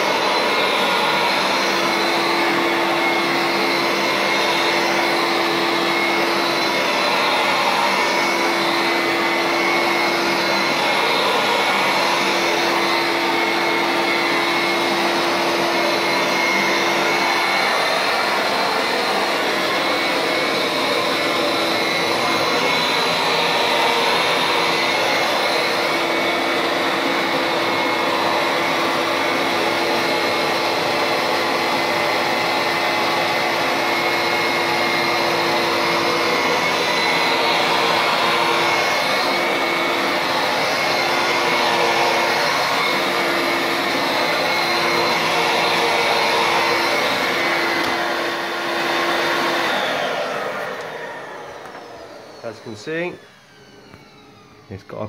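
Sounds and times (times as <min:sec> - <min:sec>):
carpet cleaner motor whine: 0:00.0 - 0:55.0.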